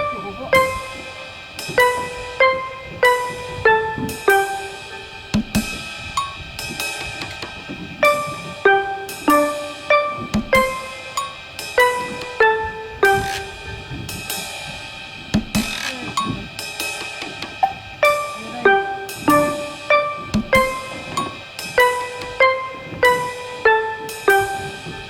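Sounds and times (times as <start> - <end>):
drum kit playing: 0.0 - 25.0
melody of struck notes: 0.0 - 25.0.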